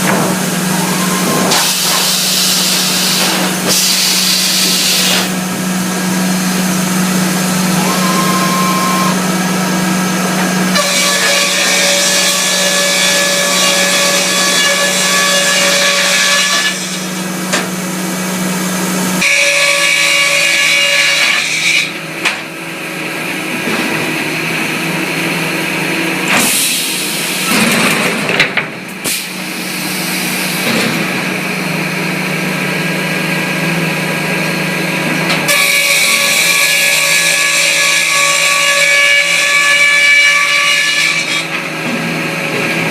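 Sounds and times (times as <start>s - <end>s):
sawmill machinery droning: 0.0s - 42.9s.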